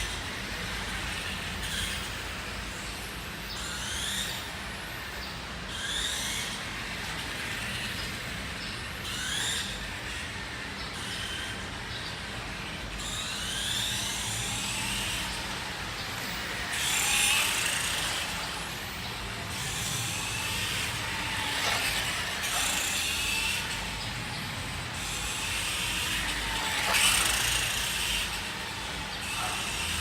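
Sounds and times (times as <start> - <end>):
toy motorcycle motor whining: 0.0 - 30.0.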